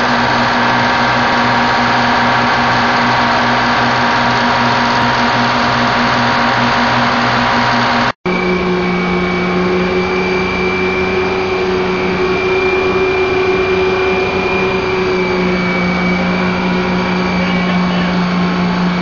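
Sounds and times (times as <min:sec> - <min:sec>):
diesel engines droning: 0:00.0 - 0:19.0
steady high whine: 0:00.0 - 0:19.0.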